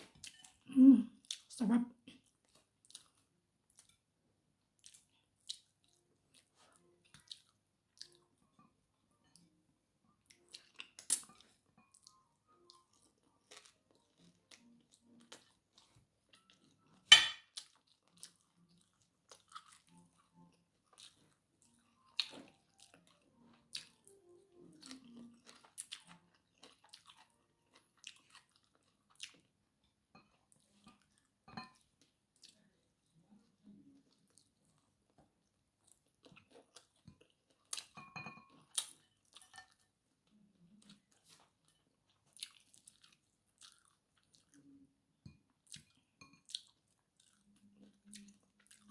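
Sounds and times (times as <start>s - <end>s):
person chewing and crunching: 0.0s - 44.9s, 45.5s - 48.9s.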